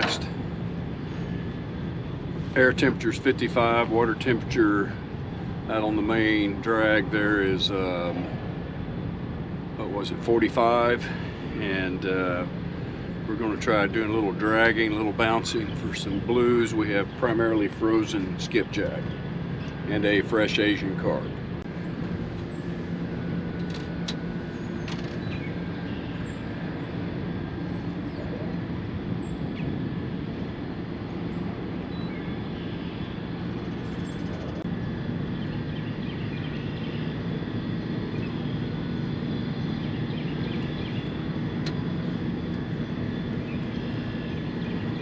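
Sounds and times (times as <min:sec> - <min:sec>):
boat motor droning: 0:00.0 - 0:45.0.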